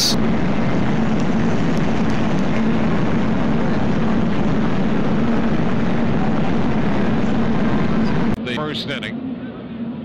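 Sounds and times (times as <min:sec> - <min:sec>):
loud rushing noise: 0:00.0 - 0:09.9
constant low hum: 0:00.0 - 0:10.0.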